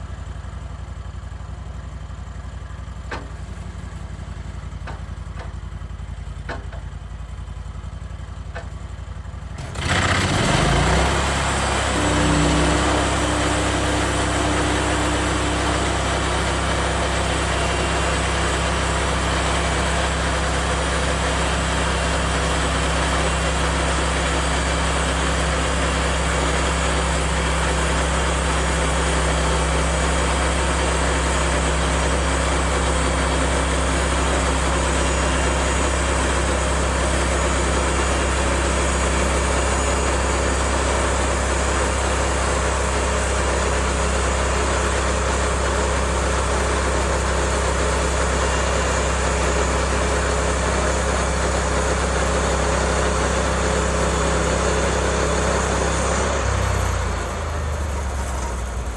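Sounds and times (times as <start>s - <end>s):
sawmill gas engine running: 0.0s - 58.9s.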